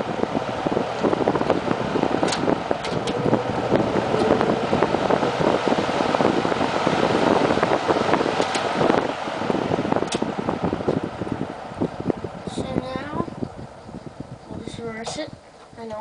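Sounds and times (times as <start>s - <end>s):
box fan air whooshing: 0.0s - 15.8s.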